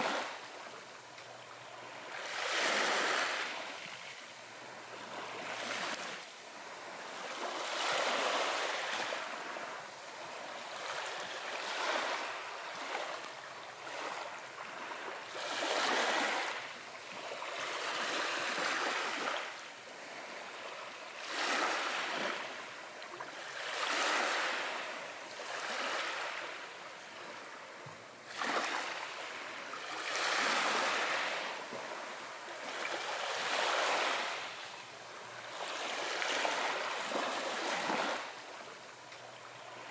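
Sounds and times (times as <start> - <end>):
small waves washing in: 0.0 - 39.9.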